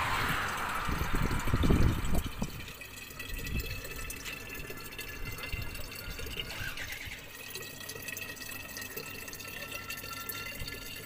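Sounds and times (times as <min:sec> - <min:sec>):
water pouring into glass bottle: 0:00.0 - 0:11.0.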